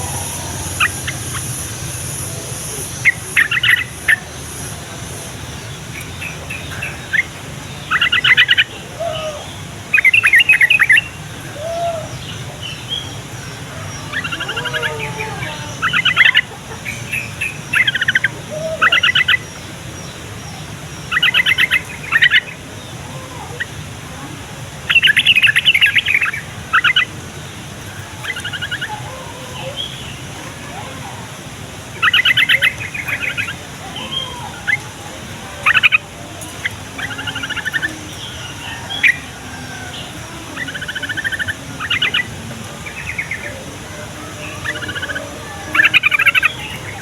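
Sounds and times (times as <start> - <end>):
bulbul chattering song: 0.0 - 47.0.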